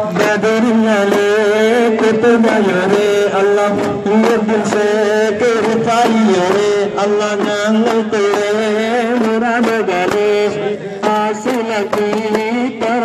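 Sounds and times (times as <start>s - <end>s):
frame drums beating: 0.0s - 13.0s
person singing a devotional chant: 0.0s - 13.0s.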